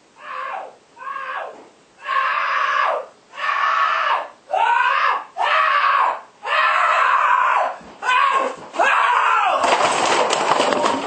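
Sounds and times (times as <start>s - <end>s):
person screaming: 0.2s - 9.6s.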